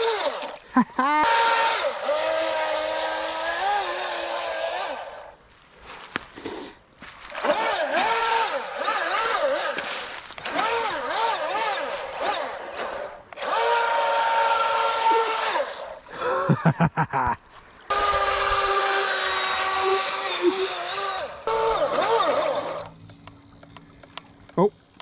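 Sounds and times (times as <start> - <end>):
electric motor whining: 0.0 - 5.4, 7.3 - 16.1, 17.9 - 25.0.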